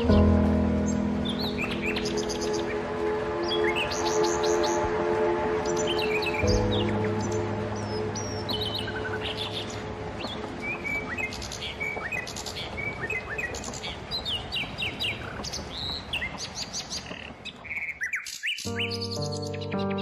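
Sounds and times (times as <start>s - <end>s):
background hiss: 0.0s - 17.4s
small songbirds chirping: 0.0s - 20.0s.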